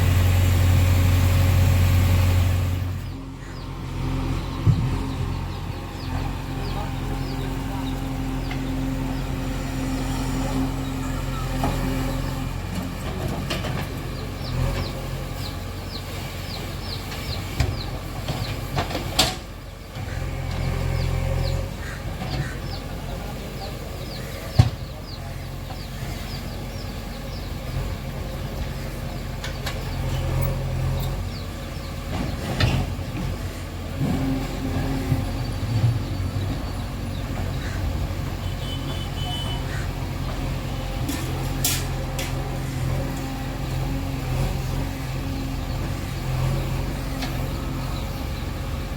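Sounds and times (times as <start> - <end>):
diesel engine under load: 0.0 - 48.9.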